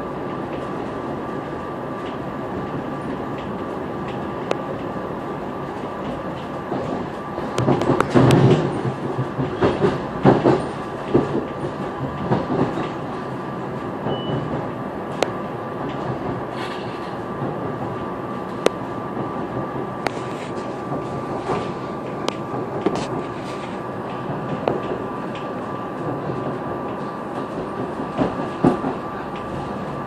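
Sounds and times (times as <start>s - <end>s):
train running rumble: 0.0s - 30.0s
wheels clattering on track: 0.0s - 30.0s.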